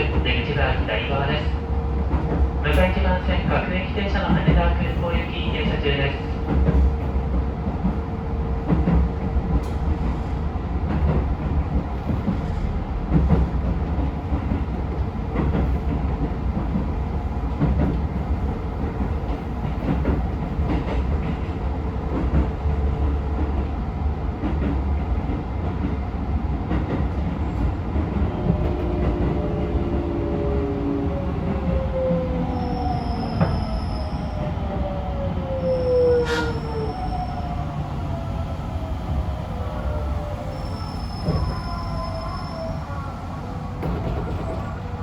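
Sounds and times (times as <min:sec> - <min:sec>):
train interior rumble: 0:00.0 - 0:45.0.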